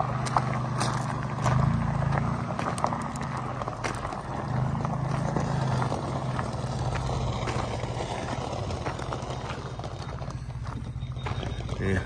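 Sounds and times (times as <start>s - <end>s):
tyres crunching on gravel: 0.0s - 12.0s.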